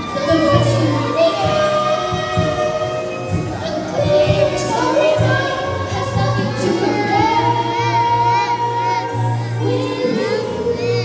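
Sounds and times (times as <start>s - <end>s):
backing music: 0.0s - 11.0s
person singing: 0.0s - 11.0s.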